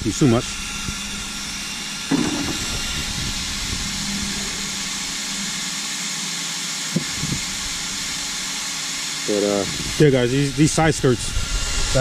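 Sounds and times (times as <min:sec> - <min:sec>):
small fans whirring: 0:00.0 - 0:12.0.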